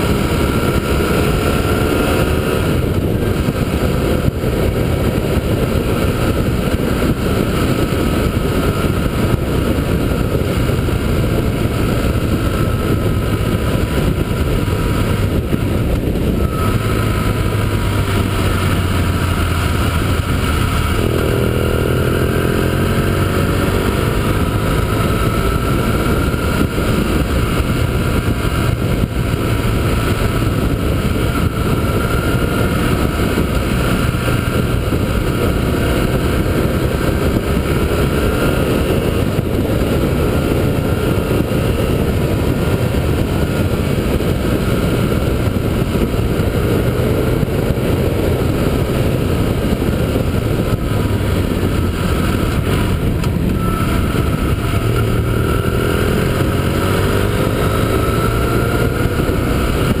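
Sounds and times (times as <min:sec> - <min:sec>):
motorcycle engine running: 0:00.0 - 1:00.0
wind and road noise: 0:00.0 - 1:00.0.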